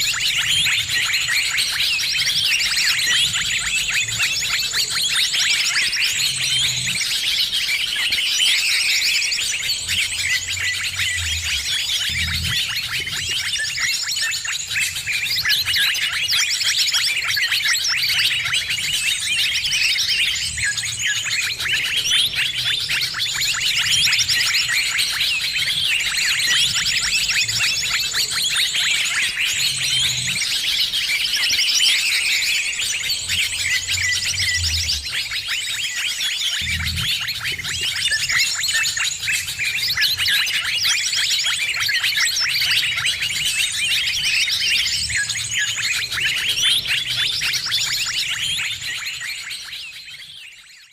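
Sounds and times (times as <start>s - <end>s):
flock of small birds chirping: 0.0s - 50.9s.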